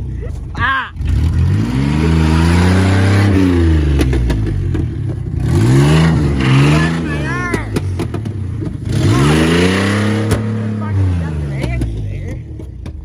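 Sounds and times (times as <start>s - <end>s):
pickup truck engine revving: 0.0s - 12.6s.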